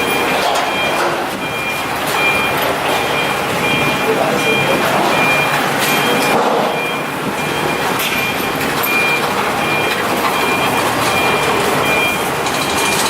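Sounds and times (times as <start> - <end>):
diesel generator running: 0.0 - 13.0
short electronic beep: 0.0 - 13.0.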